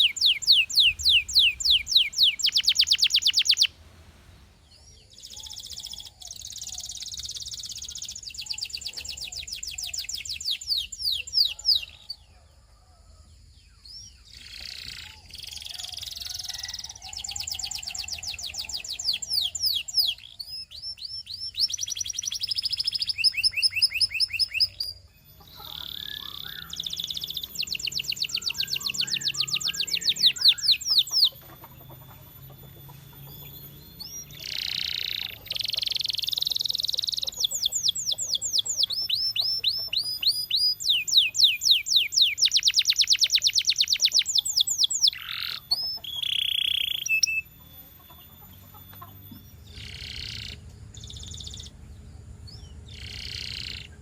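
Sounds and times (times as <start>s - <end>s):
canary singing trills: 0.0s - 12.9s, 13.6s - 54.0s.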